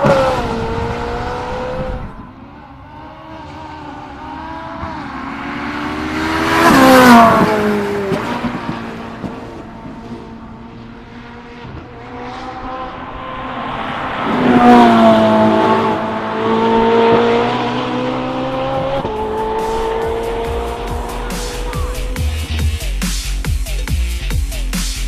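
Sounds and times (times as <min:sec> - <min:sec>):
car engine at high revs: 0:00.0 - 0:22.8.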